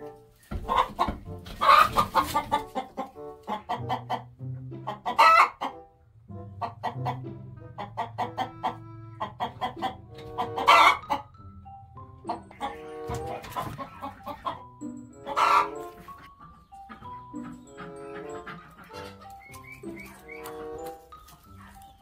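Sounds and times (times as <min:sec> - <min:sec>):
background music: 0:00.0 - 0:22.0
chickens clucking: 0:00.0 - 0:22.0.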